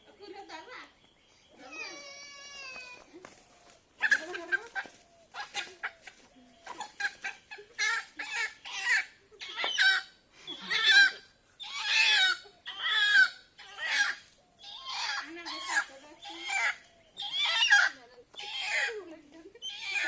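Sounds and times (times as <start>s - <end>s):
chicken squawking and clucking: 3.6s - 20.0s.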